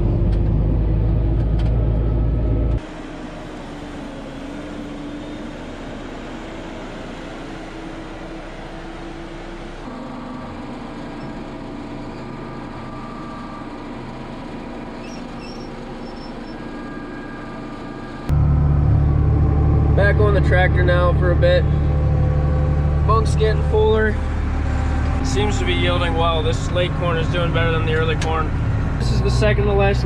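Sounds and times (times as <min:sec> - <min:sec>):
farm machinery engines running: 0:00.0 - 0:30.0.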